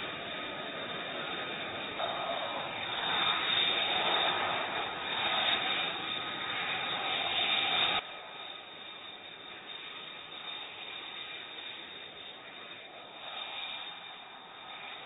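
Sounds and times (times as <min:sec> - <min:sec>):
jet engine roaring with high whine: 0:00.0 - 0:15.0.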